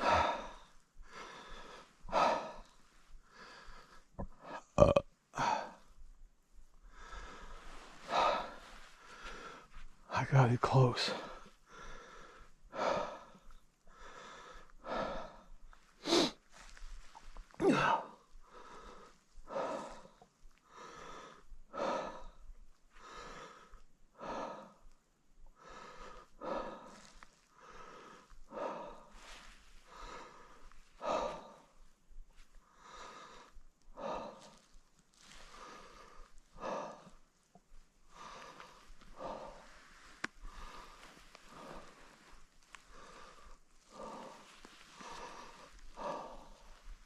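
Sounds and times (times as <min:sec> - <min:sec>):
man breathing hard: 0:00.0 - 0:04.8, 0:05.4 - 0:06.1, 0:06.7 - 0:47.0.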